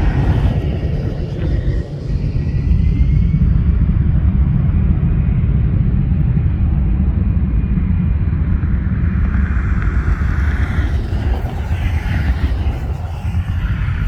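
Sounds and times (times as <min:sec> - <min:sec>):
jet taking off: 0:00.0 - 0:14.0.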